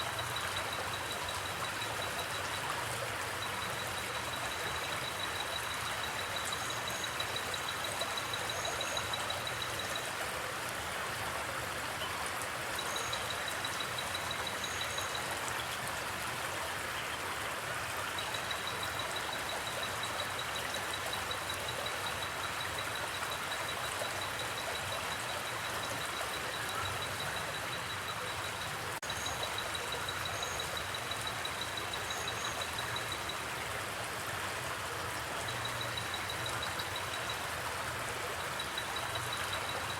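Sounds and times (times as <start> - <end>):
crickets chirping in trills: 0.0 - 10.2, 12.7 - 15.6, 18.0 - 33.4, 35.4 - 39.9
stream running: 0.0 - 39.9.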